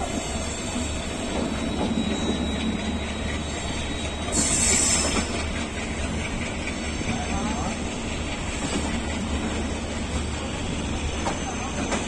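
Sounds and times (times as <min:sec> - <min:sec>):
train rumble and wheel clatter: 0:00.0 - 0:12.0.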